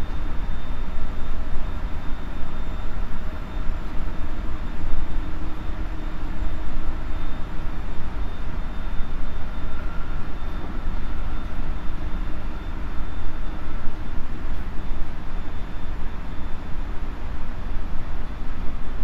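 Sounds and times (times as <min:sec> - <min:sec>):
electric train humming at platform: 0:00.0 - 0:19.0.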